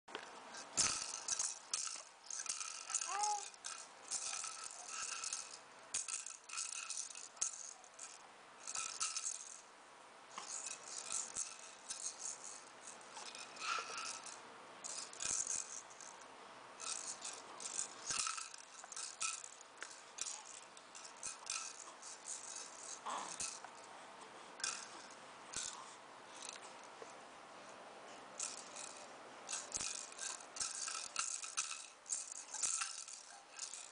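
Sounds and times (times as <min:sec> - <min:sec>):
toy rattle shaken: 0:00.2 - 0:09.7, 0:10.3 - 0:16.2, 0:16.8 - 0:23.9, 0:24.6 - 0:26.9, 0:28.4 - 0:33.9.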